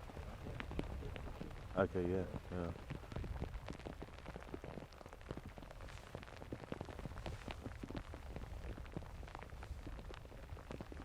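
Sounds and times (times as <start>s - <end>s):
raindrops tapping on a surface: 0.0s - 11.0s.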